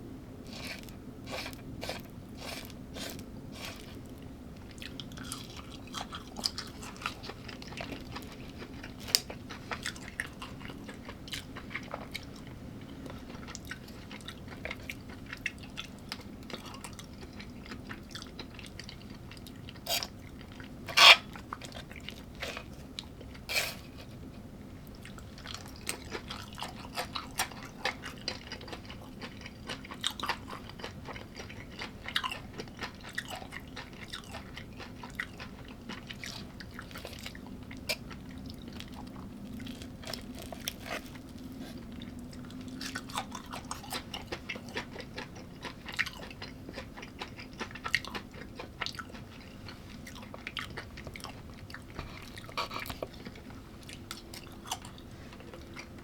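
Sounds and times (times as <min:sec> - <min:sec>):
person chewing crunchy food: 0:00.4 - 0:56.0.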